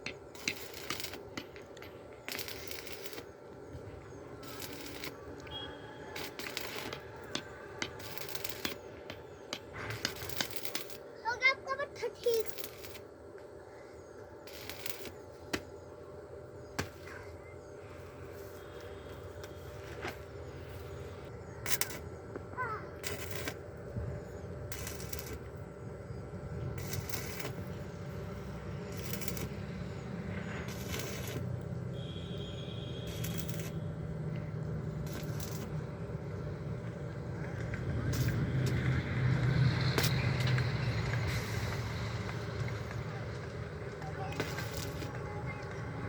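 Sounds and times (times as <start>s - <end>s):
electric arc welding crackling: 0.0s - 13.2s, 14.4s - 15.6s, 18.2s - 46.0s.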